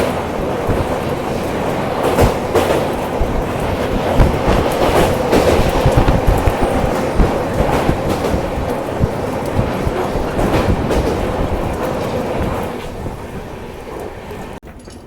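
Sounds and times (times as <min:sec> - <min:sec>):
train rumble: 0:00.0 - 0:15.0
wheels clacking over rail joints: 0:00.0 - 0:15.0.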